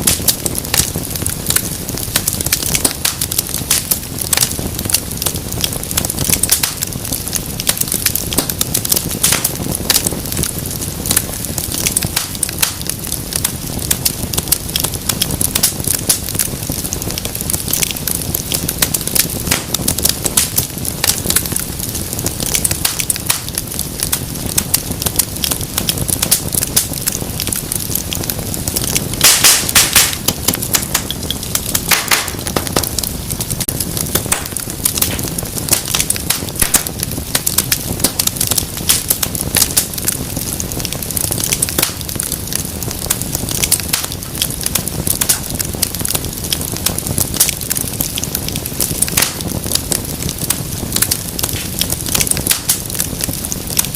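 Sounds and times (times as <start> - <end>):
fire popping: 0.0 - 53.9
wood fire crackling: 0.0 - 53.9.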